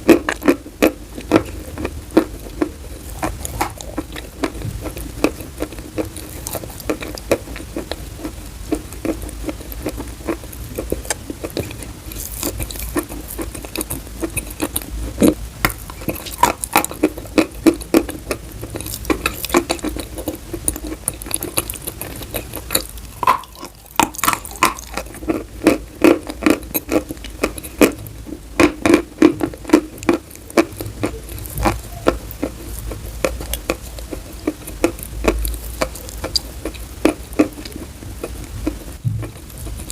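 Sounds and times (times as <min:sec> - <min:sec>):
chalk being chewed: 0:00.2 - 0:28.0, 0:28.6 - 0:39.9.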